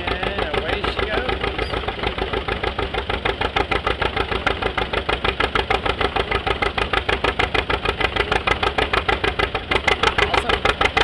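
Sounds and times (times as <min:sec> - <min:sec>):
antique engine running: 0:00.0 - 0:11.0.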